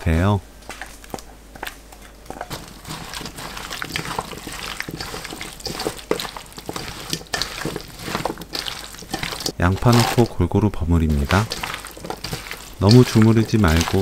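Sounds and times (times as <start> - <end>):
wet squelches of mixing by hand: 2.2 - 14.0.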